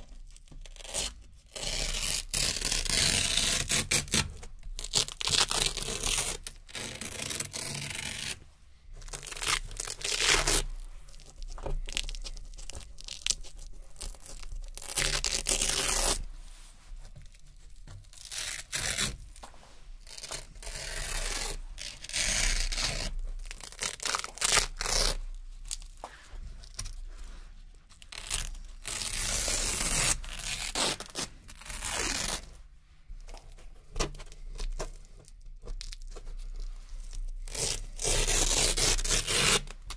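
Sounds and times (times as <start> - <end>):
velcro strips ripping: 0.0 - 8.4, 9.0 - 16.3, 18.0 - 26.0, 27.9 - 32.6, 35.6 - 39.9.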